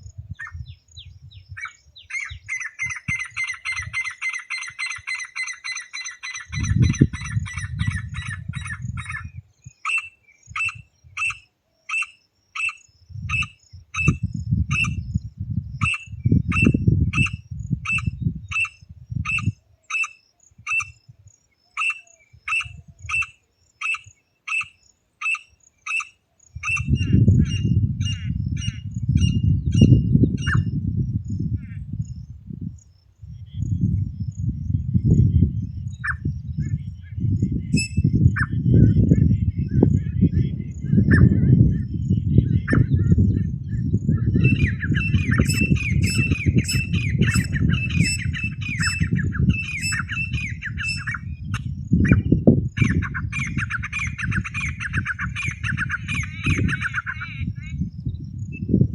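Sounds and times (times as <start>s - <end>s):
partridge calling: 1.4s - 15.1s, 15.8s - 21.0s, 21.7s - 30.8s, 36.0s - 57.9s.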